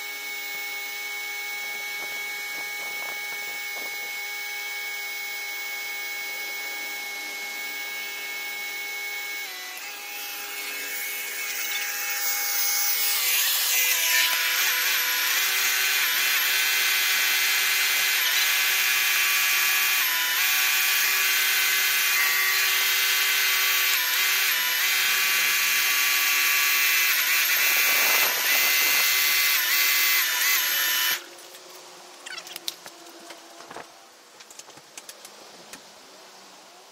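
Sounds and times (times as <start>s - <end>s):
pressure washer motor whine: 0.0s - 31.3s.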